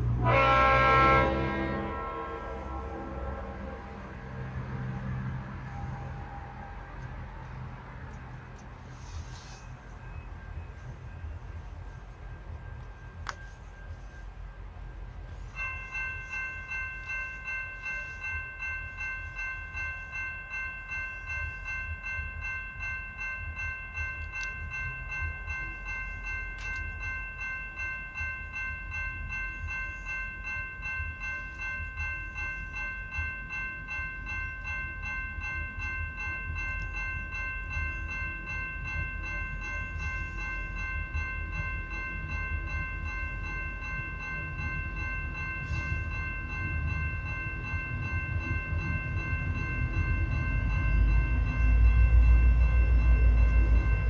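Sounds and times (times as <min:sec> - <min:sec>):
diesel locomotive rumble: 0:00.0 - 0:54.0
level crossing warning bell: 0:00.0 - 0:54.0.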